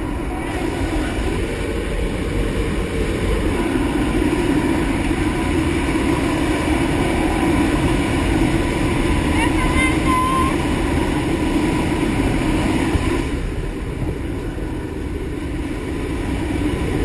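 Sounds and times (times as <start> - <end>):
plane engines droning: 0.0 - 17.0
rushing air: 0.0 - 17.0.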